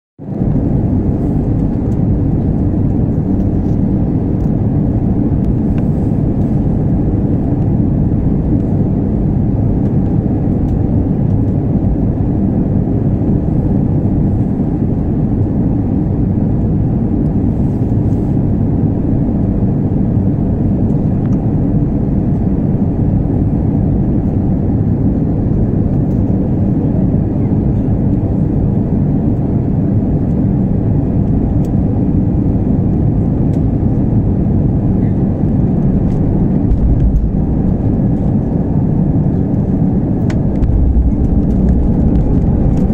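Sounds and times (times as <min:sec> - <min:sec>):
airplane cabin low rumble: 0:00.2 - 0:42.9.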